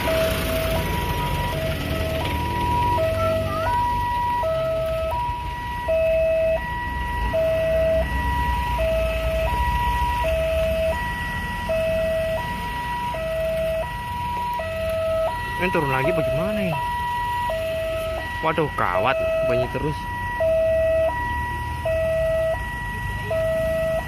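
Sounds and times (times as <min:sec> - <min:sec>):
level crossing two-tone alarm: 0:00.0 - 0:24.0.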